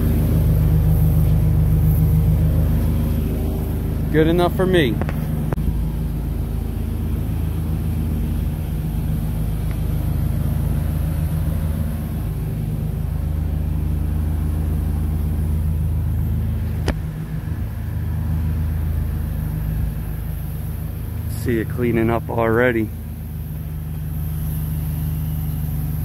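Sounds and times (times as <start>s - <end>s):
pressure washer engine hum: 0.0s - 26.0s.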